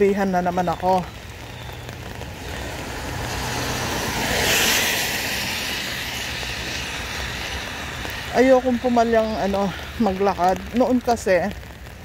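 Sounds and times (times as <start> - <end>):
car tyres hissing on wet road: 0.2 - 12.0.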